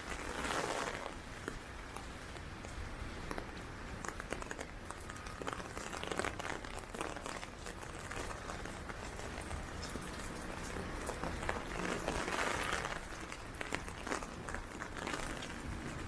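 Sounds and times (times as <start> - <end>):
low rumble of wind: 0.0 - 16.0
rain hitting an umbrella: 0.0 - 16.0.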